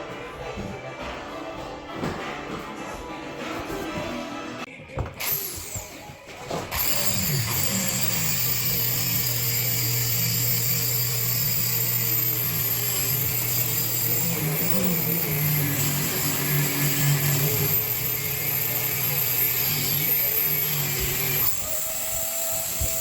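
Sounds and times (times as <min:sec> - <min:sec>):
power saw cutting plaster wall: 0:03.6 - 0:23.0.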